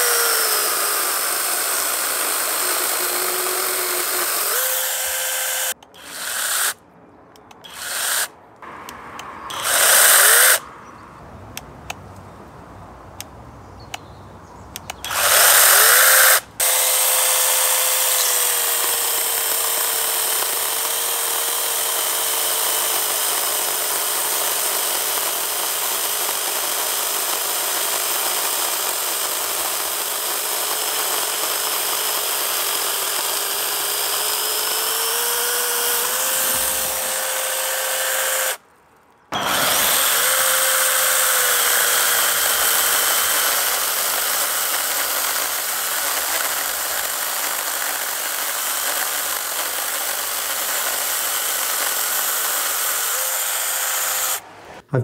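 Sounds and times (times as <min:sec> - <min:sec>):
electric chainsaw cutting branches: 0:00.0 - 0:06.8, 0:07.6 - 0:08.3, 0:09.1 - 0:10.6, 0:15.0 - 0:38.6, 0:39.3 - 0:54.8.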